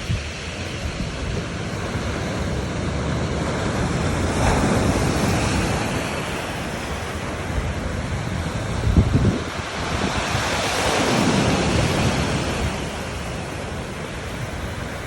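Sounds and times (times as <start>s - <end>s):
surf washing onto shore: 0.0s - 15.0s
wind rumbling on microphone: 0.0s - 15.0s.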